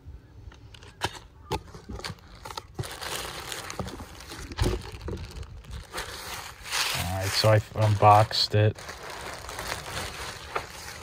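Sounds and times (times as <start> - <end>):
plastic bag crinkling: 1.8 - 11.0.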